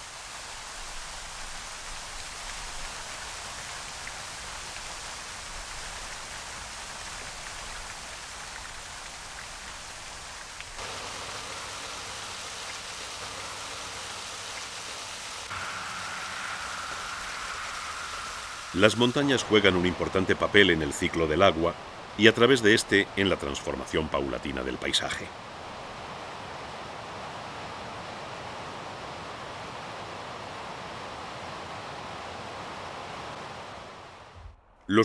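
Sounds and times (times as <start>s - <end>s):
waterfall splashing into pool: 0.0s - 34.3s.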